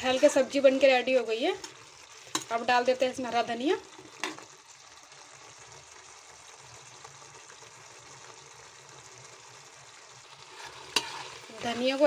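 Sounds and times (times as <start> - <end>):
sauce simmering and bubbling: 0.0 - 12.0.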